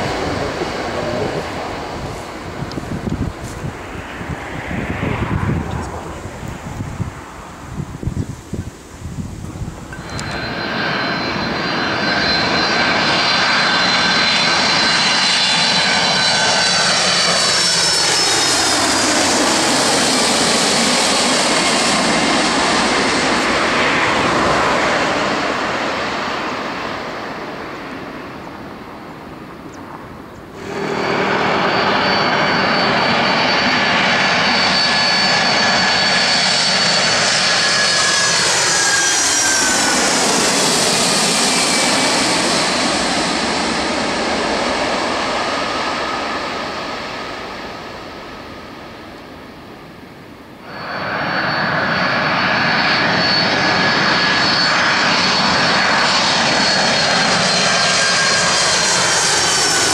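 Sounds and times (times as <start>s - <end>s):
jet airliner passing overhead: 0.0s - 59.9s.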